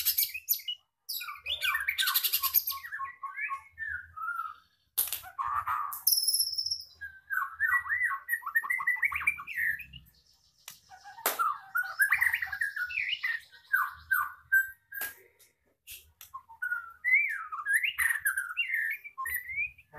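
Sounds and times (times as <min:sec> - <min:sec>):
songbird singing trills: 0:00.0 - 0:19.9.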